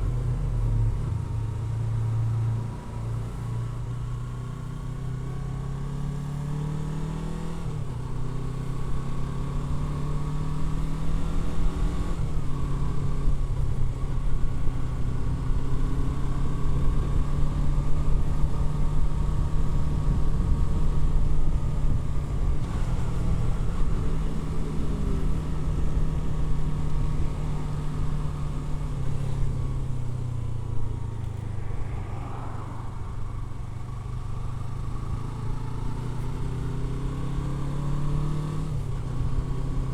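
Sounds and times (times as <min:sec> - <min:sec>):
motorcycle engine revving and shifting: 0:04.9 - 0:31.5, 0:34.0 - 0:39.9.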